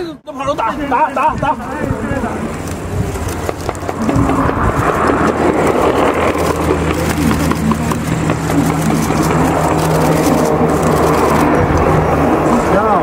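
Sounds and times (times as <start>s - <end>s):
helicopter engine and rotor hum: 1.6s - 13.0s.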